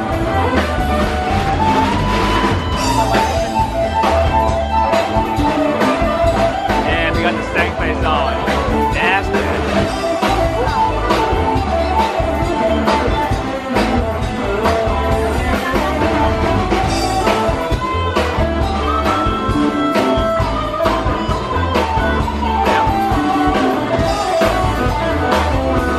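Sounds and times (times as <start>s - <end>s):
rock music with guitar and drums: 0.0s - 25.9s.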